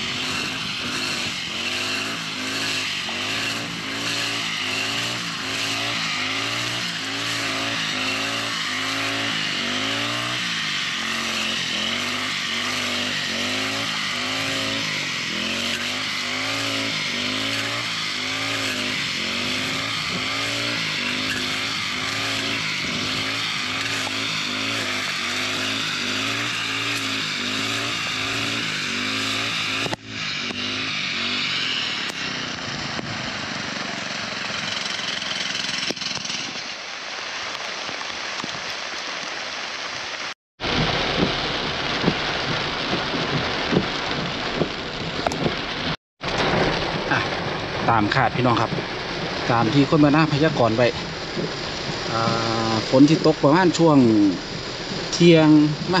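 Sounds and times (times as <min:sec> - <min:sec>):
brush cutter engine running: 0:00.0 - 0:36.7, 0:47.8 - 0:56.0.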